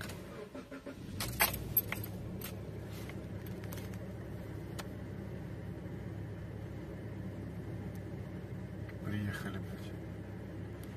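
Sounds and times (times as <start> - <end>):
car engine cranking: 0.0 - 9.0
car engine idling: 0.0 - 10.9.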